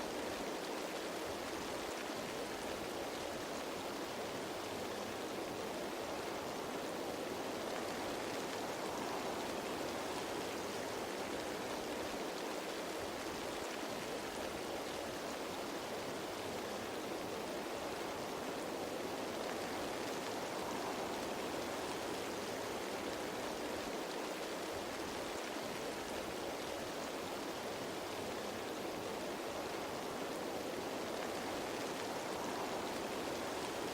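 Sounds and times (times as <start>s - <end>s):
rain falling on leaves: 0.0s - 33.9s.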